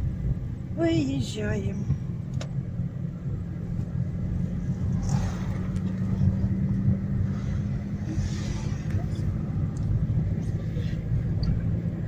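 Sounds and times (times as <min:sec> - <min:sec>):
car engine hum: 0:00.0 - 0:12.0
road noise inside car: 0:00.0 - 0:12.0.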